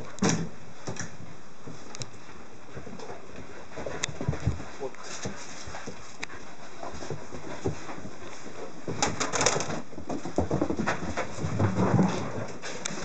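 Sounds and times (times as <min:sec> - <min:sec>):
dogs scuffling: 0:00.9 - 0:13.0.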